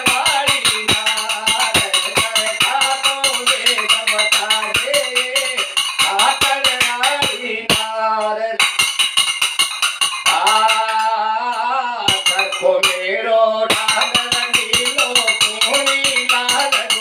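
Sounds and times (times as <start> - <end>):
small hand cymbals clinking: 0.0 - 7.8, 8.6 - 11.2, 12.1 - 13.0, 13.7 - 17.0
man singing: 0.0 - 8.7, 10.2 - 17.0.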